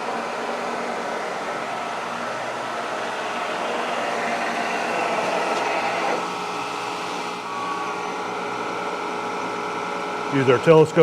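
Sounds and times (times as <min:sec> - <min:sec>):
milling machine whirring: 0:00.0 - 0:10.8.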